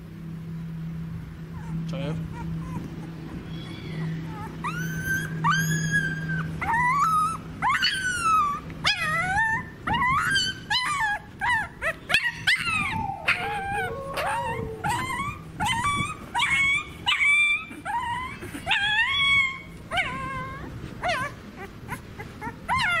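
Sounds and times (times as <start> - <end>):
puppy whining and yelping: 1.5 - 23.0.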